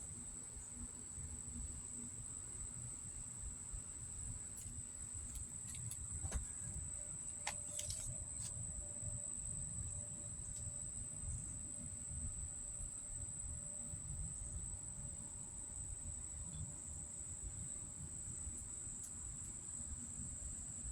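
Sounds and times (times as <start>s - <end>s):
crickets trilling: 0.1s - 20.9s.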